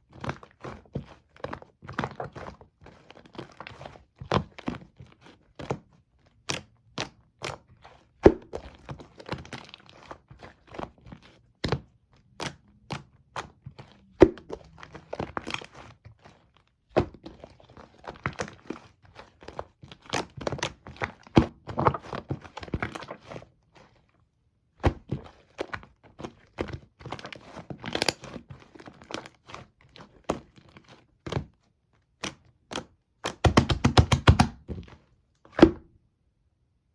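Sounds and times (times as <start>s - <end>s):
rapid slime squelching: 0.0s - 35.9s.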